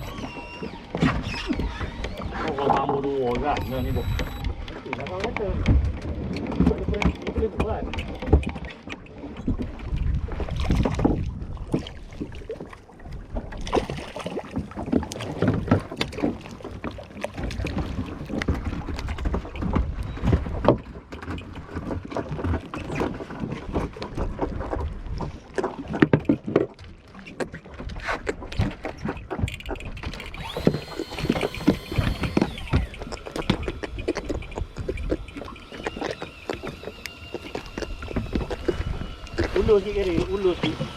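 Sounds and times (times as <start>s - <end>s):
boat low rumble: 0.0s - 40.9s
water slapping against hull: 0.0s - 40.9s.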